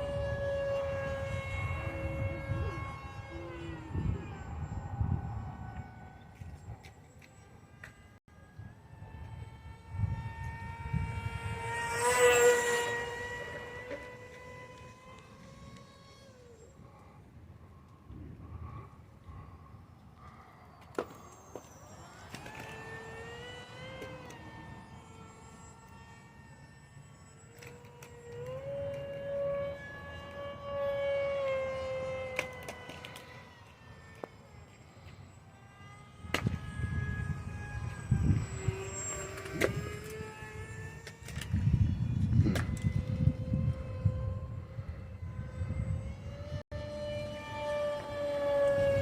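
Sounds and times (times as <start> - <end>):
model plane motor whining: 0.0 - 49.0.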